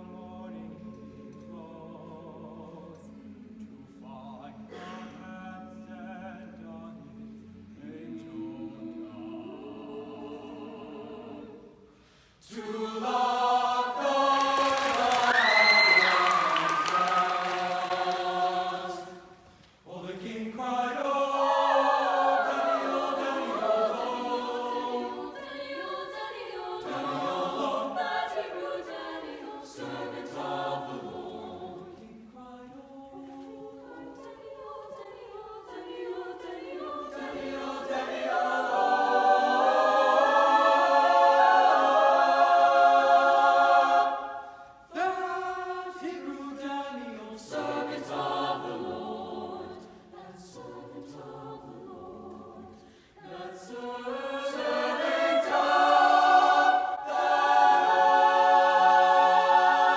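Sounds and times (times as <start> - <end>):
choir singing a cappella: 0.0 - 59.9.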